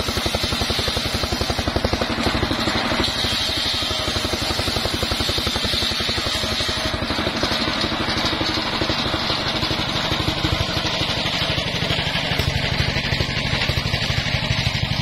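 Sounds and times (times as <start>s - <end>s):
engine driving circular saw: 0.0s - 15.0s.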